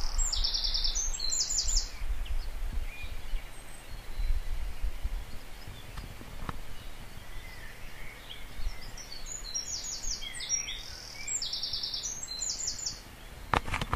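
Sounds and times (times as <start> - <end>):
low steady background noise: 0.0 - 13.9
songbirds chirping and trilling: 0.0 - 13.9.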